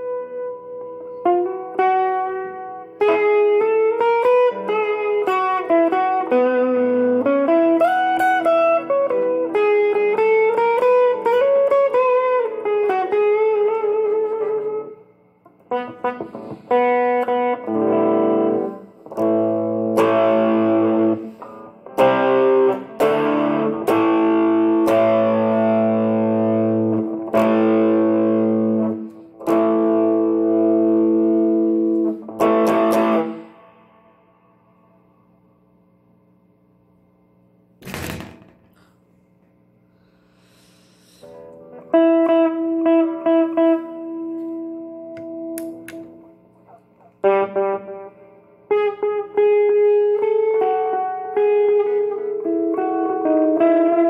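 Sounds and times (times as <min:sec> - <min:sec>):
electric guitar melody with reverb: 0:00.0 - 0:35.8, 0:41.1 - 0:54.0
ringing electric guitar chords: 0:00.0 - 0:40.3, 0:41.2 - 0:54.0.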